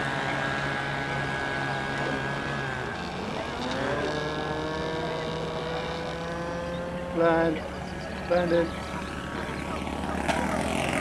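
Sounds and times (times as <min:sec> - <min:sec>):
model seaplane engines buzzing: 0:00.0 - 0:11.0.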